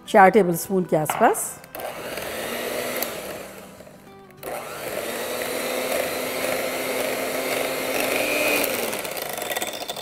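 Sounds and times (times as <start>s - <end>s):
electric hand mixer beating: 1.1s - 10.0s.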